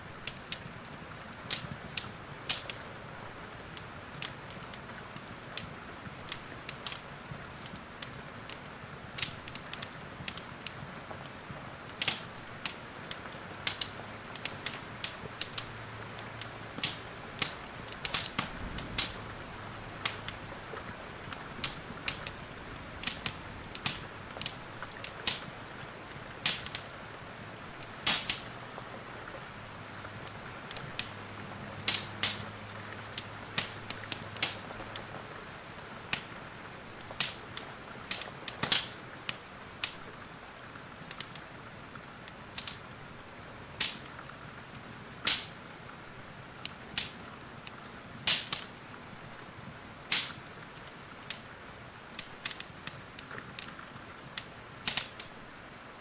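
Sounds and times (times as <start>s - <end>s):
rain hissing: 0.0s - 56.0s
wood fire crackling and popping: 0.0s - 56.0s.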